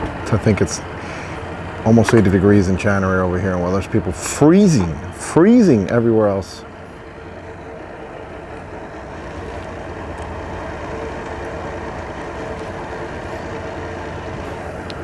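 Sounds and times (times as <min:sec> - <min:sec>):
outboard motors humming: 0:00.0 - 0:15.0.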